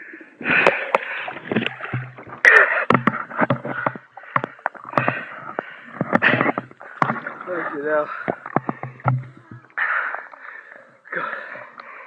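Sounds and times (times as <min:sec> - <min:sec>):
water splashing from swimming: 0:00.4 - 0:12.0.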